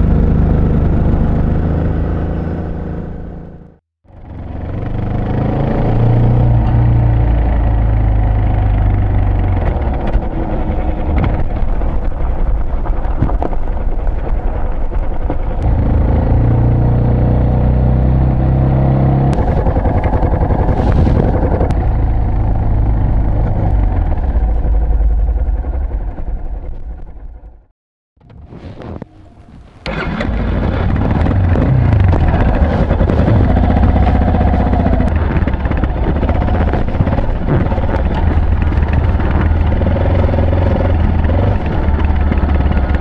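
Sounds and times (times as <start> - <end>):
motorcycle engine running: 0.0 - 27.7, 29.8 - 43.0.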